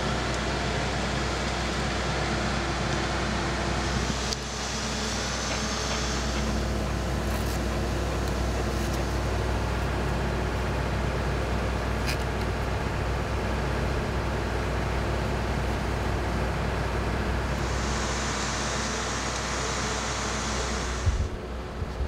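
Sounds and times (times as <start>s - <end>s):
mechanical drone with low hum: 0.0s - 22.0s.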